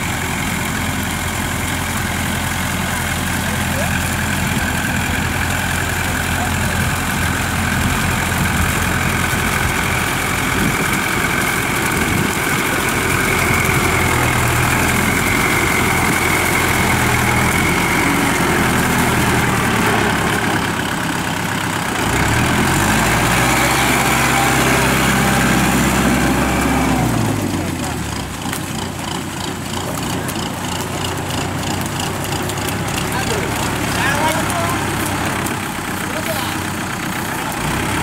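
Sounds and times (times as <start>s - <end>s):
diesel tractor engine running: 0.0s - 38.0s.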